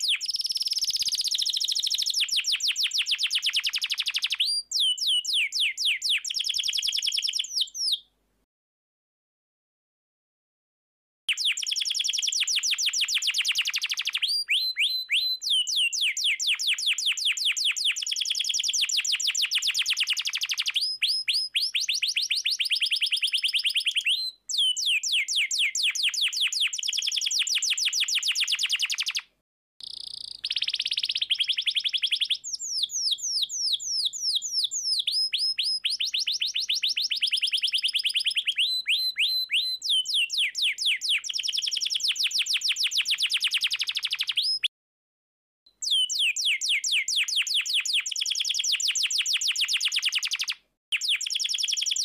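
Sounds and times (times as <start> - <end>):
canary singing trills: 0.0 - 8.0, 11.3 - 29.2, 29.8 - 44.7, 45.8 - 52.0.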